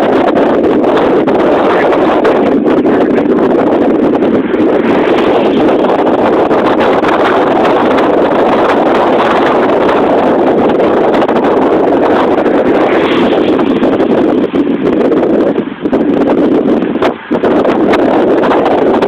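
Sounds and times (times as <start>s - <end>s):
heavy wind buffeting microphone: 0.0s - 19.0s.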